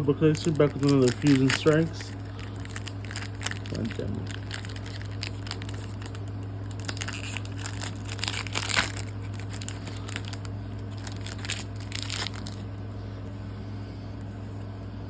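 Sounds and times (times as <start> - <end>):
foil wrapper tearing and crinkling: 0.2 - 12.6.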